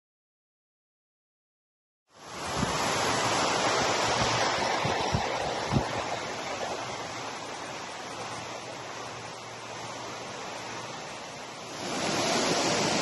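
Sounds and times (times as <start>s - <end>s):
waterfall rushing: 2.2s - 13.0s.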